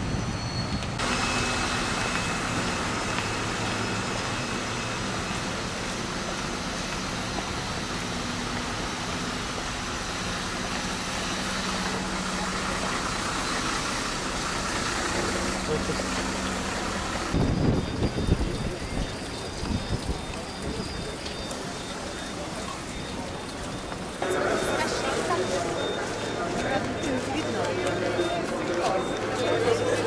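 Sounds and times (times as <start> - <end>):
vehicle engine idling: 1.0 - 30.0.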